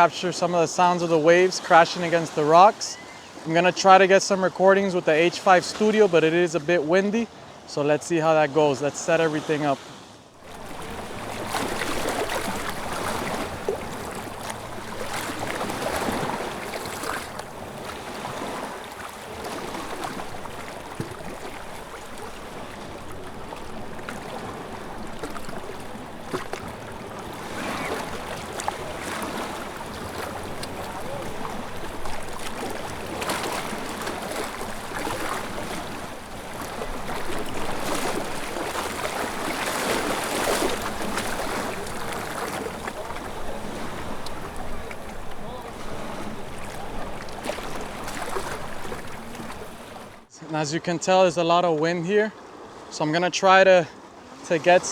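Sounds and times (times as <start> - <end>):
sea waves breaking on rocks: 0.0 - 54.9.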